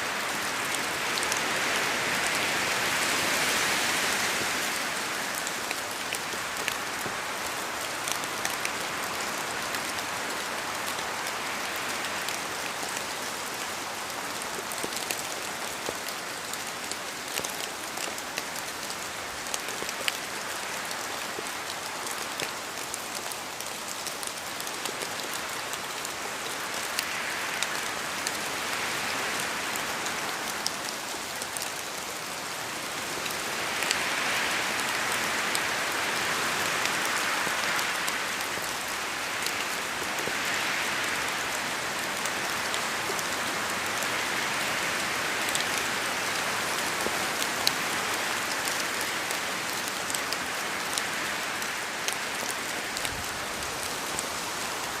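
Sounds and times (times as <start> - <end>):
rain falling on leaves: 0.0 - 55.0
wind gusting through trees: 0.0 - 55.0.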